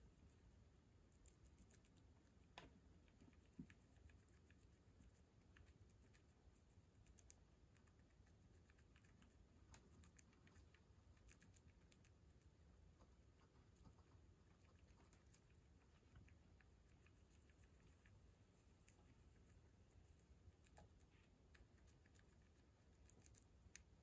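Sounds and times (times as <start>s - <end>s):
hamster nibbling clicks: 1.1s - 24.0s.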